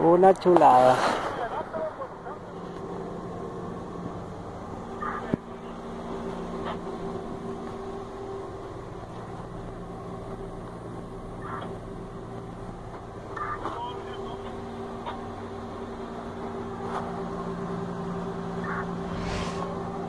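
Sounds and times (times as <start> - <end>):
locomotive engine idling: 0.0 - 19.1.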